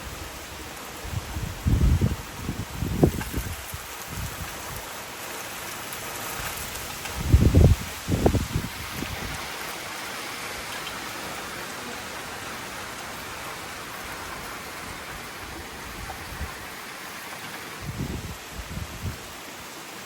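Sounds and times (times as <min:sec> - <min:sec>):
rain falling on surfaces: 0:00.0 - 0:20.0.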